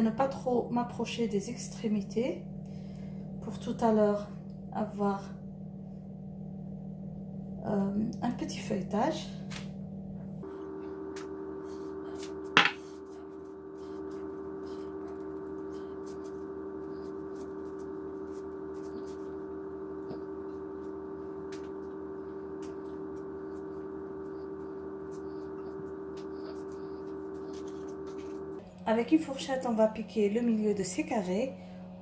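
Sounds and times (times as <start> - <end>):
steady tonal hum: 0.0 - 32.0.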